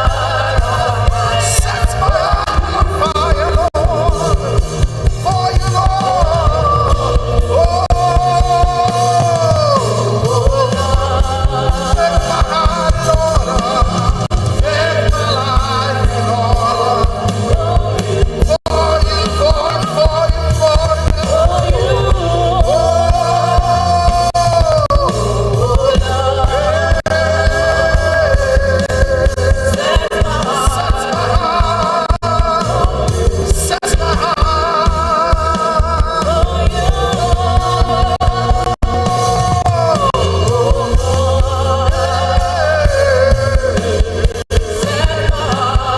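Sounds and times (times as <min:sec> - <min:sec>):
gospel band with bass and drums: 0:00.0 - 0:45.9
voices singing: 0:00.0 - 0:45.9.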